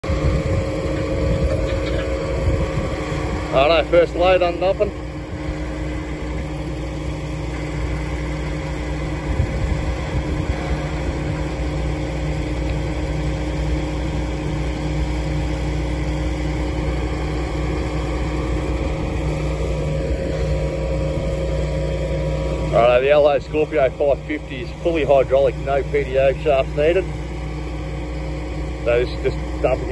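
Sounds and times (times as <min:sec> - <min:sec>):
tractor engine running steadily: 0:00.0 - 0:29.9.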